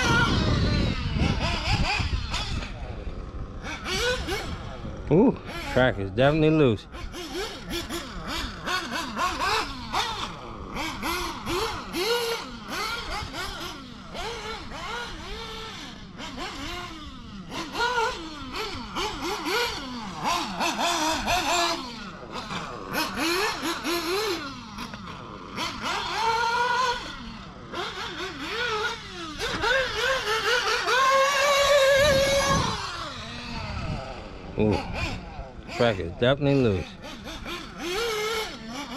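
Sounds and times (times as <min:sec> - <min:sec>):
nitro rc engine revving: 0:00.0 - 0:38.9.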